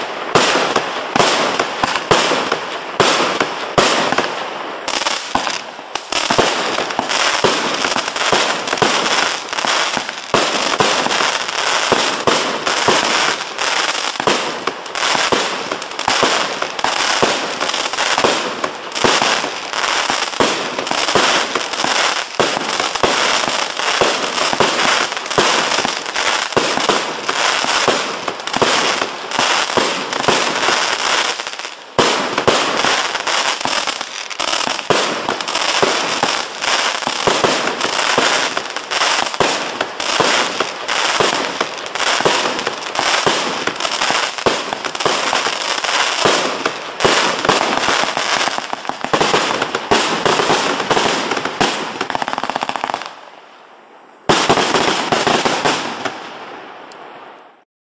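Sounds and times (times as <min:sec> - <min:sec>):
fireworks bursts and crackle: 0:00.0 - 0:53.4, 0:54.2 - 0:57.4.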